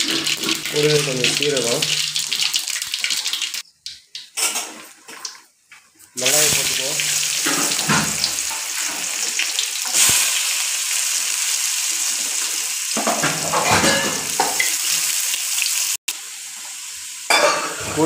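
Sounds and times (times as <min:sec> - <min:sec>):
onion sizzling in hot oil: 0:00.0 - 0:03.7, 0:06.2 - 0:18.0.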